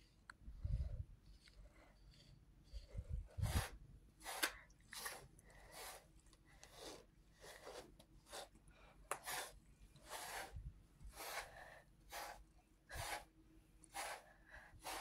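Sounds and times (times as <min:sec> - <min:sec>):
brush strokes through fur: 0:01.1 - 0:08.6, 0:09.2 - 0:13.3, 0:13.9 - 0:15.0.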